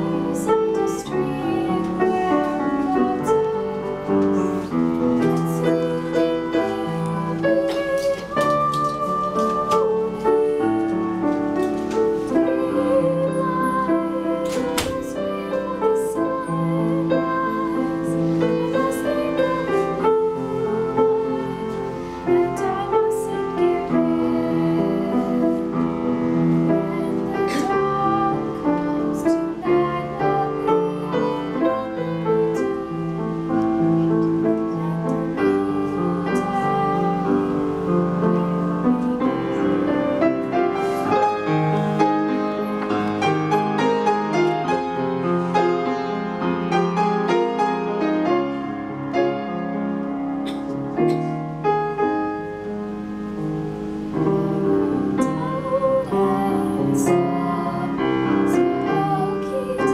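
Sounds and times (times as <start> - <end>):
girl singing: 0.0 - 45.8, 54.2 - 59.9
piano accompaniment: 0.0 - 59.9.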